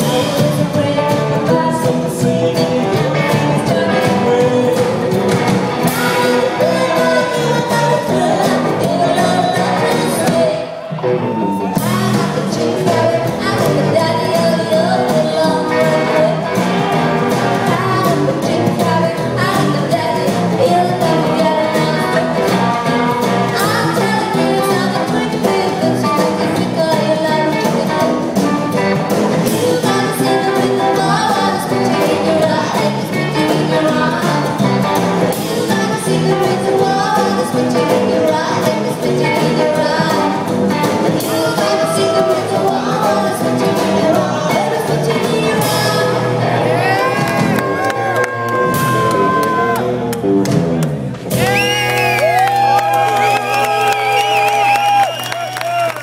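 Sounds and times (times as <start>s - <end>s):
woman singing: 0.0s - 10.8s, 11.6s - 47.4s
drums: 0.0s - 56.0s
upright double bass: 0.0s - 56.0s.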